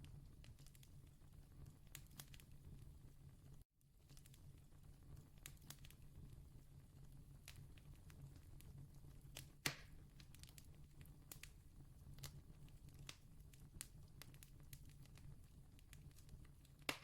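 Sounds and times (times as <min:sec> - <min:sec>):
distant campfire crackling: 0:00.0 - 0:17.0.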